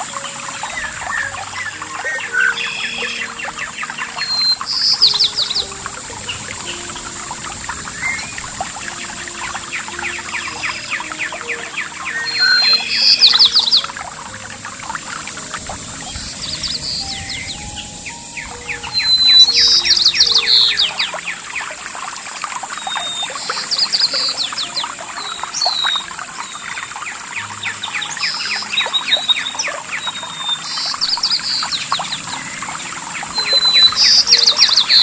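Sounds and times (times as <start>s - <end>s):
birds singing trills: 0.0s - 35.0s
water trickling and splashing: 0.0s - 35.0s.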